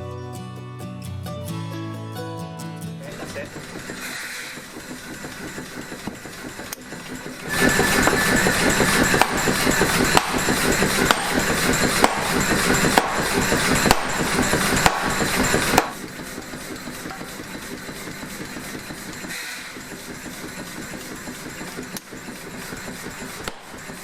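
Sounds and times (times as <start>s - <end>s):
power hammer pounding steel: 3.1s - 24.0s
steady machine hum: 3.1s - 24.0s.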